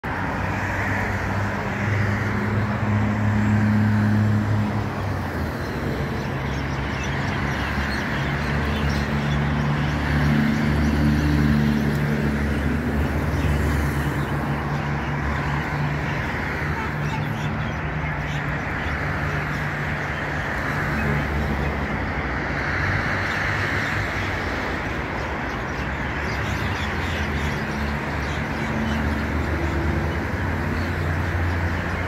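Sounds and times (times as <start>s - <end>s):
cars passing on road: 0.0s - 32.0s.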